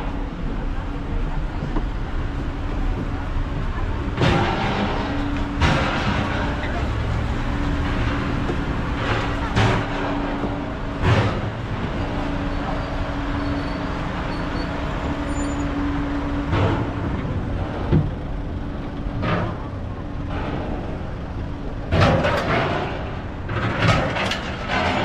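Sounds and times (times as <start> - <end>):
vehicle engine drone: 0.0 - 25.0
voices: 0.0 - 25.0.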